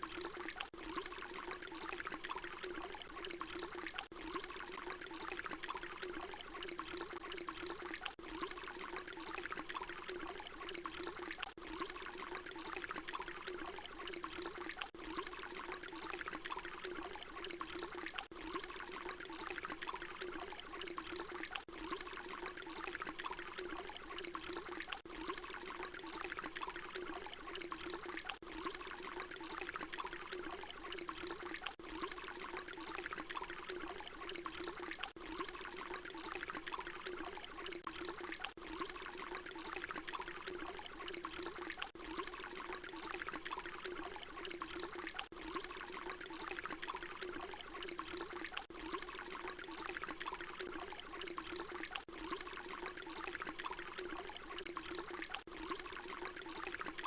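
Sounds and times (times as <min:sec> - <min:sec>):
water pouring: 0:00.0 - 0:57.0.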